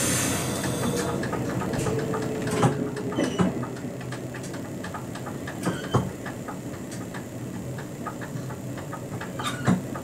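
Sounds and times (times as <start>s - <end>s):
train rattling and clicking: 0.0s - 10.0s.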